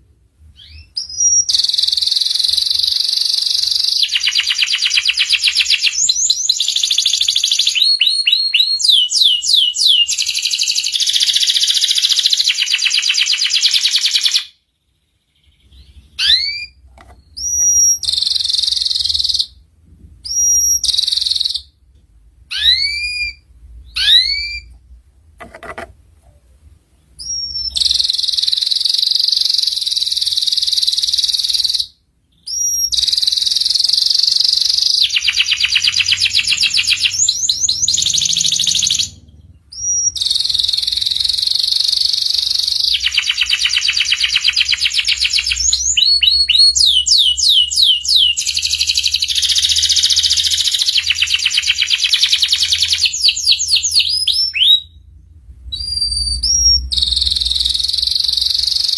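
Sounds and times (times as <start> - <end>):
canary singing trills: 0.5 - 21.8, 22.4 - 24.8, 27.0 - 58.9.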